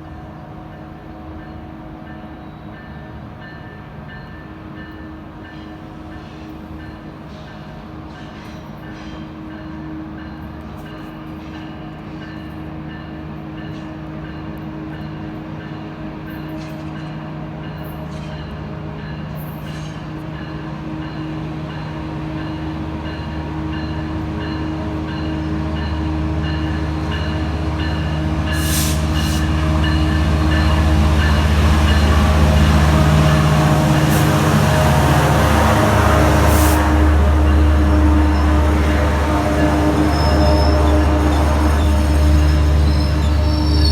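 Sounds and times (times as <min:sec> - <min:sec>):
diesel locomotive engine drone: 0:00.0 - 0:43.9.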